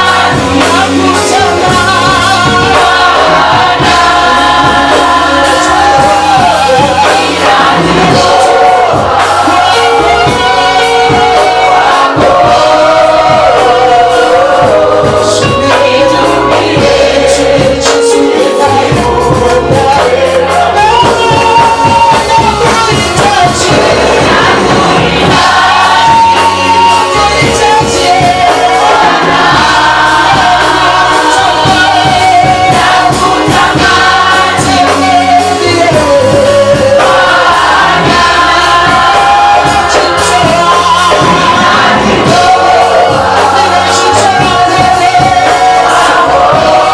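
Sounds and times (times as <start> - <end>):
choir singing gospel music: 0.0 - 46.9.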